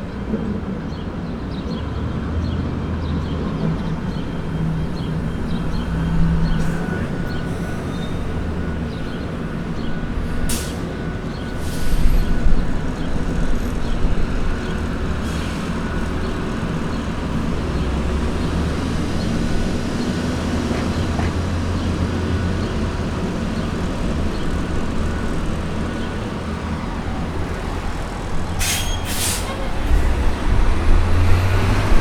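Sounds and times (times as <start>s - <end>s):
road noise: 0.0s - 32.0s
traffic engines rumbling: 0.0s - 32.0s.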